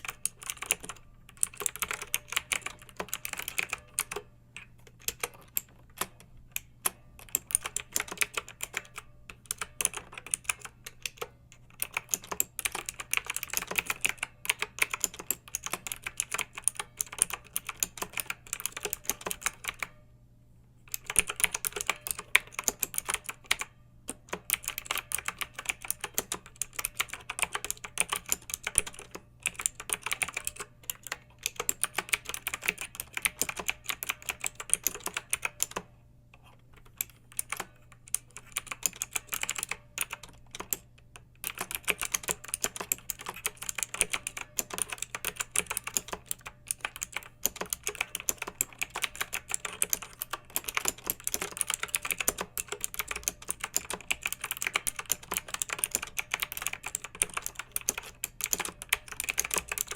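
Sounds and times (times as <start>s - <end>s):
mechanical keyboard typing: 0.0s - 20.0s, 20.9s - 59.9s.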